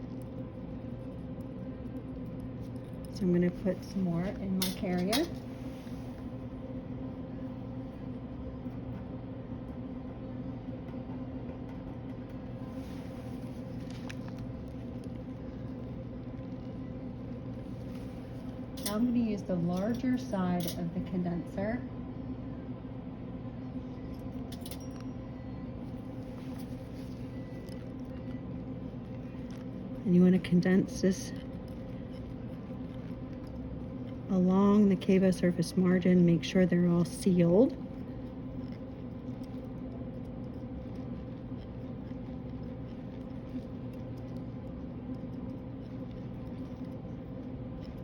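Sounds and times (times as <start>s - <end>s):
dental unit humming: 0.0s - 48.0s.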